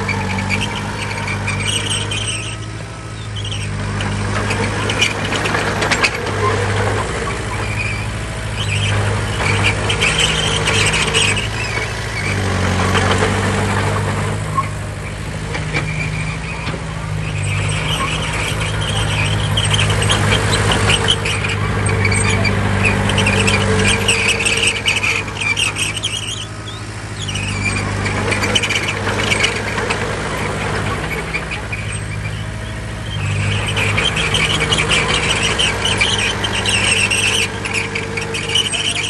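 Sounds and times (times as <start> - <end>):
diesel engine under load: 0.0 - 39.0
steel crawler tracks squealing: 0.0 - 39.0.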